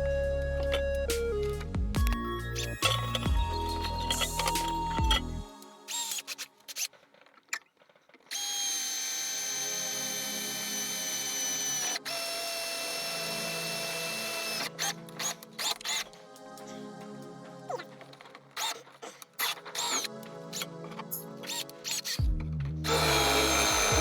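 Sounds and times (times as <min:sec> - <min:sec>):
power drill whining: 0:00.6 - 0:16.1, 0:18.6 - 0:22.3, 0:22.9 - 0:24.0.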